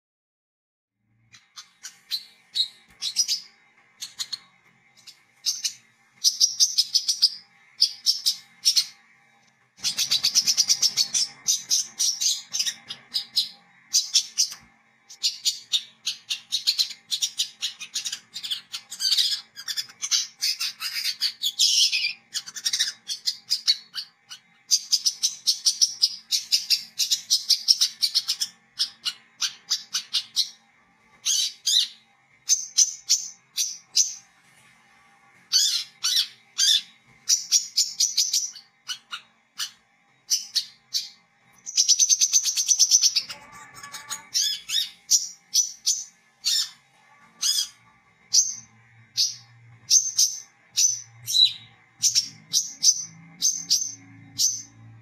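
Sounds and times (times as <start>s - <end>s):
bird chattering song: 1.2s - 9.1s, 9.8s - 30.6s, 31.2s - 34.3s, 35.5s - 46.8s, 47.4s - 55.0s.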